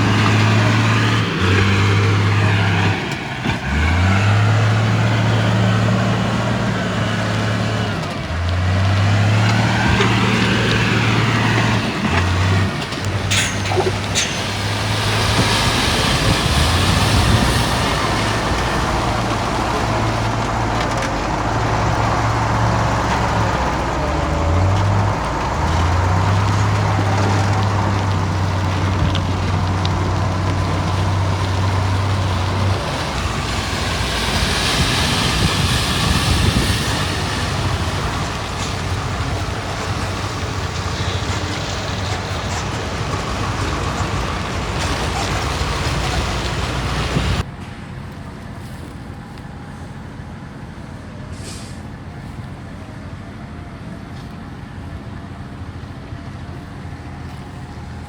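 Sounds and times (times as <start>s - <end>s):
bulldozer diesel engine drone: 0.0s - 58.0s
heavy machinery rumble: 0.0s - 58.0s.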